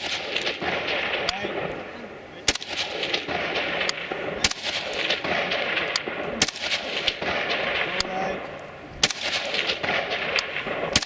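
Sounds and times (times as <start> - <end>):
rifle shots: 0.0 - 1.8, 2.4 - 11.0
steady background hiss: 0.0 - 11.0.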